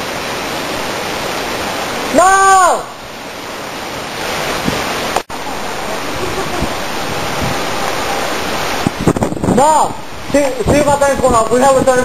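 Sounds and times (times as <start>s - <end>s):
heavy rain pouring: 0.0s - 12.0s
strong wind: 0.0s - 12.0s.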